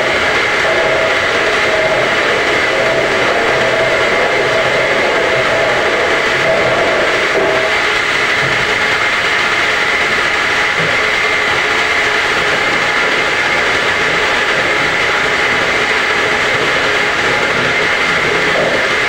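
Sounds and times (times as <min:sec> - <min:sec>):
bottle washing machine whirring: 0:00.0 - 0:19.0.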